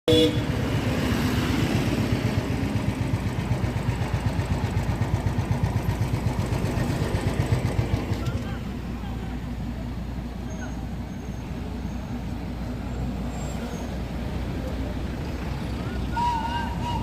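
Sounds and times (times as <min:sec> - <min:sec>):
engine running: 0:00.1 - 0:17.0.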